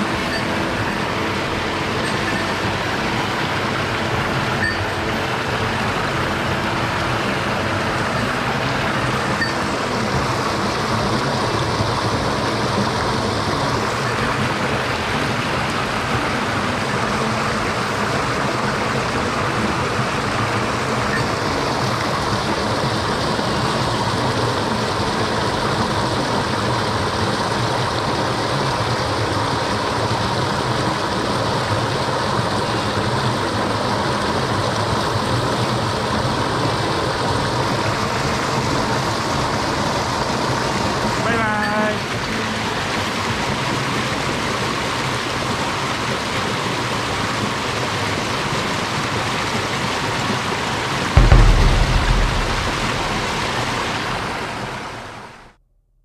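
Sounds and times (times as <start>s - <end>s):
stream flowing over rocks: 0.0s - 55.5s.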